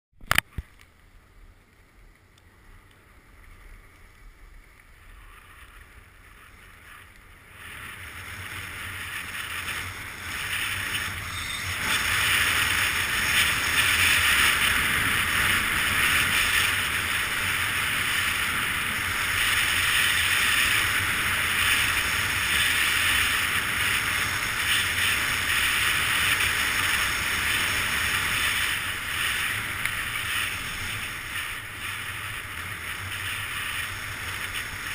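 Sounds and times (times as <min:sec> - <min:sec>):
skis hissing over snow: 0:03.0 - 0:34.9
wind rushing on microphone: 0:05.0 - 0:34.9.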